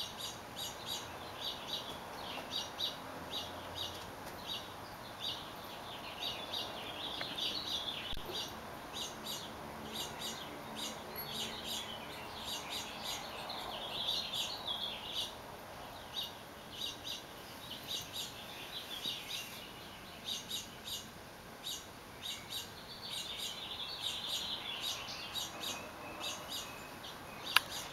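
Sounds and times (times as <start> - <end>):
small songbirds chirping: 0.0 - 27.9.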